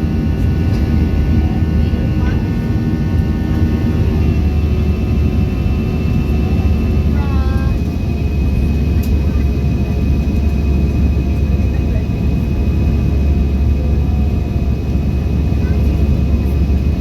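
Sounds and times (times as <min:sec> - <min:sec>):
high engine whine: 0:00.0 - 0:17.0
jet engine cabin rumble: 0:00.0 - 0:17.0.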